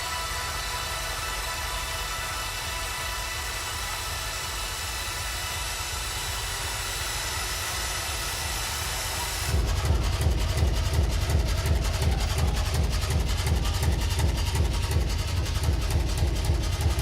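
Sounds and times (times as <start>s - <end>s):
low stuttering rumble: 0.0s - 17.0s.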